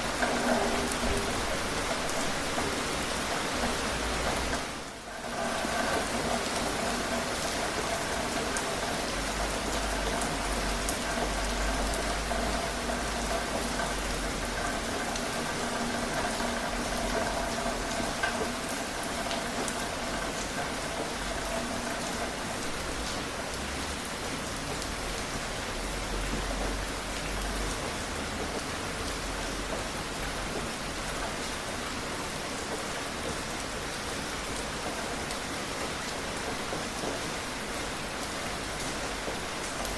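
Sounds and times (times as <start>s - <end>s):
rain falling: 0.0s - 39.9s
raindrops ticking: 0.0s - 39.9s.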